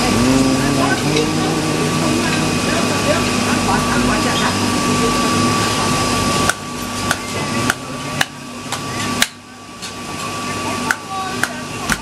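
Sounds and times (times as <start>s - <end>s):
steady noisy din: 0.0s - 12.0s.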